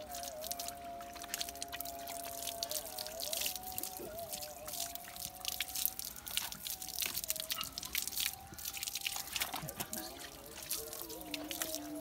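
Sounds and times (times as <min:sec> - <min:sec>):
steady wavering tone: 0:00.0 - 0:12.0
water splashing and dripping: 0:00.0 - 0:12.0.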